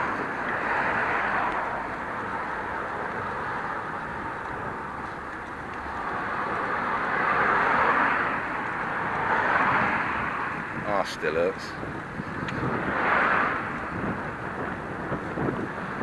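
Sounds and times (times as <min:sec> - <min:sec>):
cars passing close by: 0:00.0 - 0:16.0.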